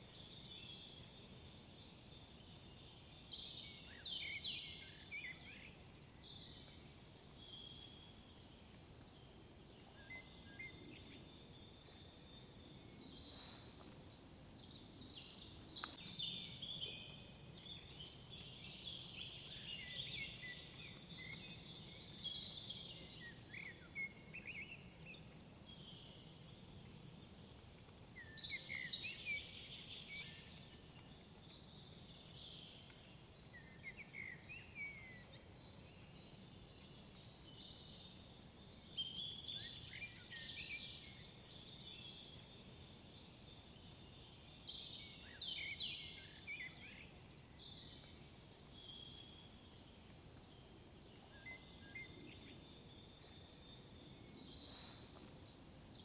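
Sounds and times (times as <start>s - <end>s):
faint low background hiss: 0.0s - 56.0s
songbirds singing: 0.0s - 56.0s.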